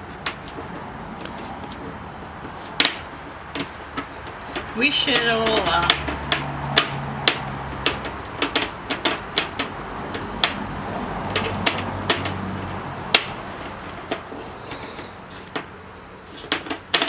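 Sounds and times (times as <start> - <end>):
utensil scraping a mixing bowl: 0.0 - 17.0.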